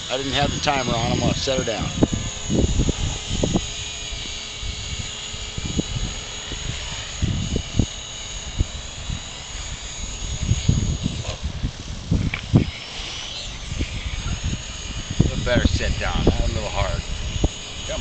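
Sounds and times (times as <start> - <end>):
rc helicopter motor whine: 0.0 - 18.0
wind buffeting microphone: 0.0 - 18.0.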